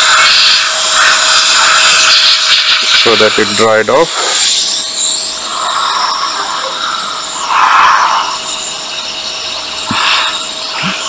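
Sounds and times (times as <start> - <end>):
electric air blower hissing: 0.0 - 11.0.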